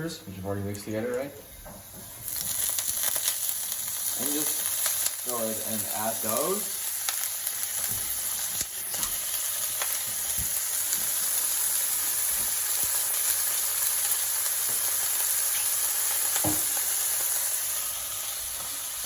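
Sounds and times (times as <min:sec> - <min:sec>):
food sizzling in oil: 0:00.4 - 0:19.0.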